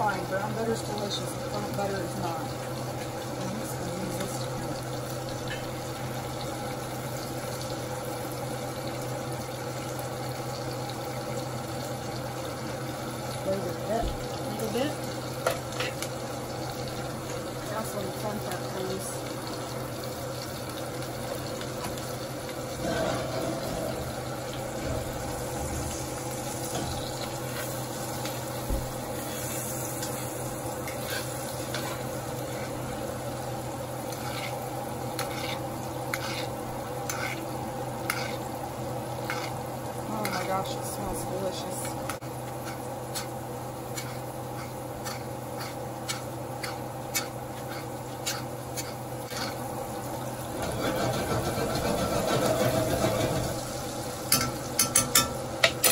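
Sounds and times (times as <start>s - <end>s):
steaks sizzling in a skillet: 0.0s - 55.9s.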